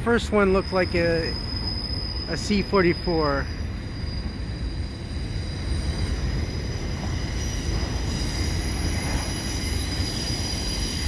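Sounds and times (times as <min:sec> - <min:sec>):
freight train cars rumbling: 0:00.0 - 0:11.0
high-pitched wheel squeal: 0:00.6 - 0:11.0.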